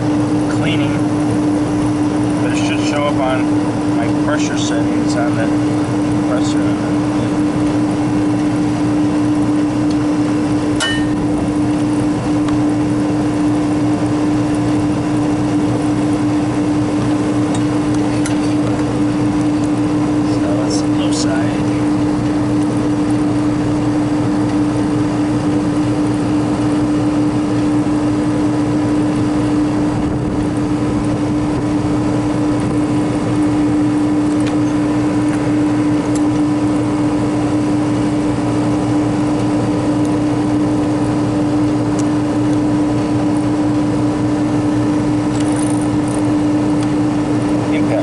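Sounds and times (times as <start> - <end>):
compressor and fan humming: 0.0 - 48.0.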